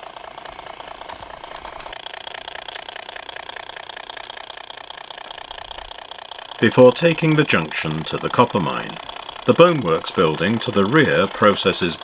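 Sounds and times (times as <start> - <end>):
model locomotive humming: 0.0 - 12.0.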